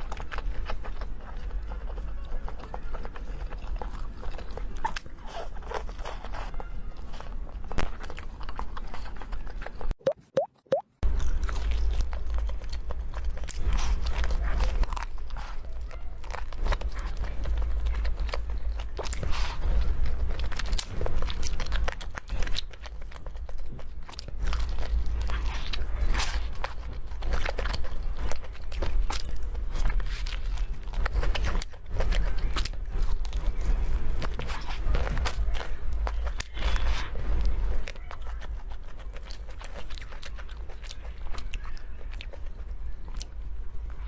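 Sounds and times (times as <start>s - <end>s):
crunchy chewing: 0.0s - 44.0s.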